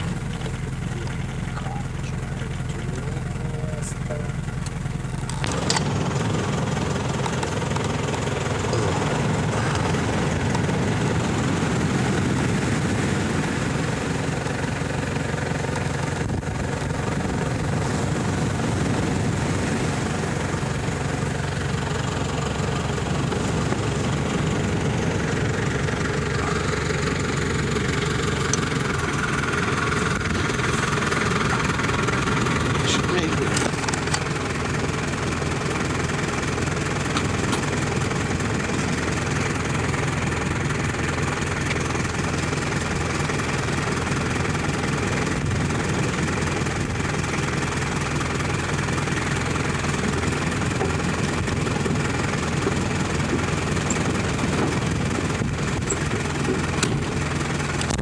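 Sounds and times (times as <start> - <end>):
motor engine running: 0.0 - 58.0.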